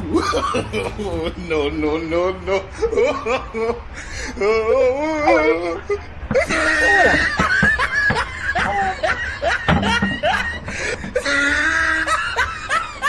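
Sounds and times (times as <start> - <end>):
person laughing: 0.0 - 13.0.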